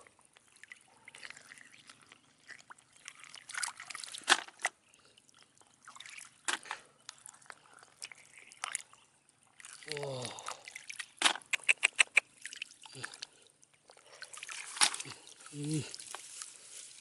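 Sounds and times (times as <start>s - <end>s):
small water splashes: 0.0s - 17.0s
water trickling and sloshing: 0.0s - 17.0s.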